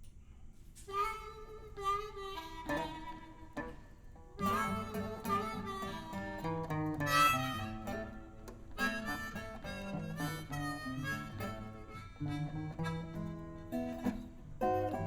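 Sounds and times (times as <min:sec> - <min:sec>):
guitar: 0:00.7 - 0:15.0
harmonica playing bent notes: 0:00.8 - 0:15.0.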